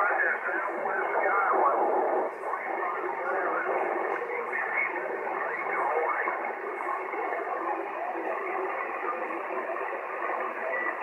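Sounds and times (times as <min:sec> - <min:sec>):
faint garbled radio voices: 0:00.0 - 0:11.0
radio static hiss: 0:00.0 - 0:11.0.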